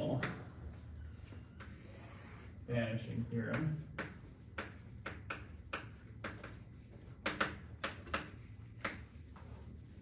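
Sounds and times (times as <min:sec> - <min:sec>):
chalk tapping and scratching: 0:00.0 - 0:00.6, 0:01.2 - 0:02.6, 0:03.4 - 0:10.0.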